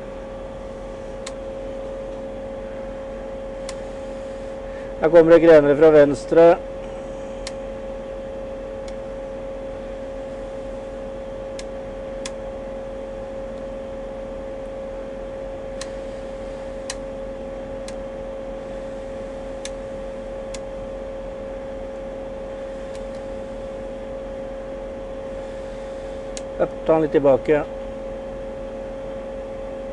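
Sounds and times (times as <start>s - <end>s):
steady electrical whine: 0.0s - 29.9s.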